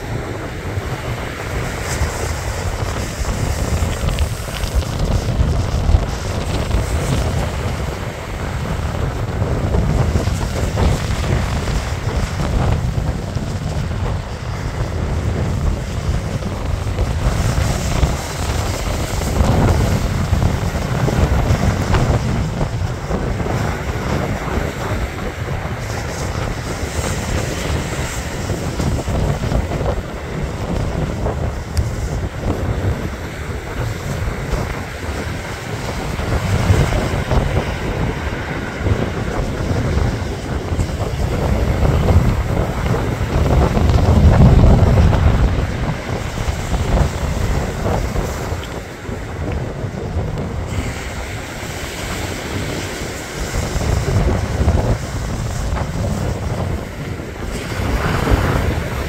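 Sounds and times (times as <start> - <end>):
surf washing up pebble beach: 0.0 - 59.0
waves breaking: 0.0 - 59.0
wind buffeting microphone: 0.0 - 59.0.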